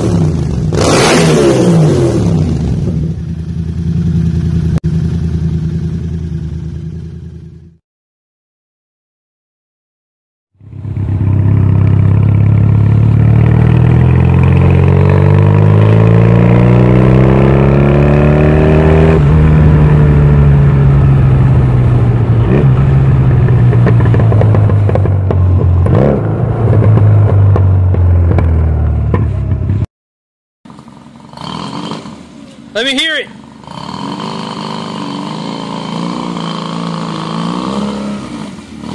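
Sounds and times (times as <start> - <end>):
motorcycle engine revving: 0.0 - 7.8, 10.6 - 29.9, 30.7 - 32.7, 33.4 - 38.9.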